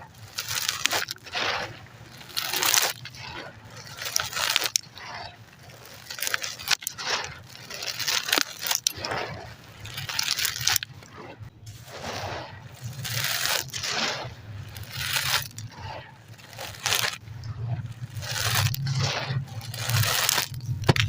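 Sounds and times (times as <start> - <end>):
concrete chunks crunching and scraping: 0.0 - 21.0.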